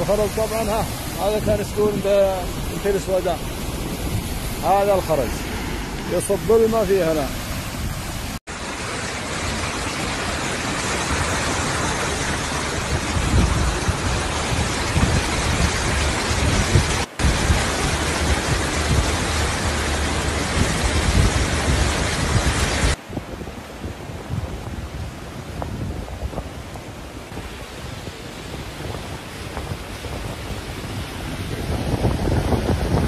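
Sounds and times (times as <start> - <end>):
low gusty rumbles: 0.0 - 8.4, 11.0 - 33.0
floodwater rushing: 0.0 - 33.0
wind: 0.0 - 33.0.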